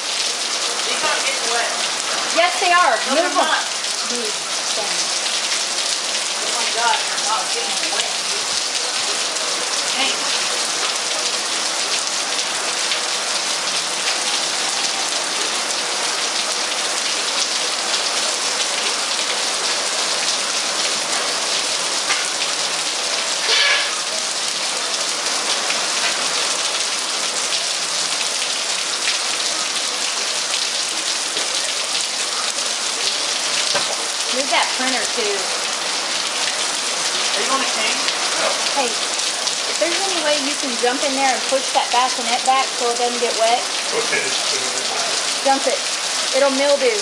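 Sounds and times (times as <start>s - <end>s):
rain falling steadily: 0.0s - 47.0s.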